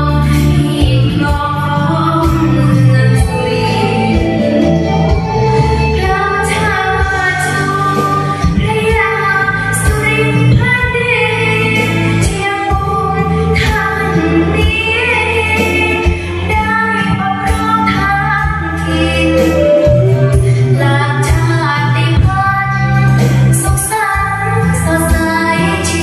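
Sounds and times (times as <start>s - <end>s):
girl singing into a microphone: 0.0s - 26.0s
music with steady bass line: 0.0s - 26.0s.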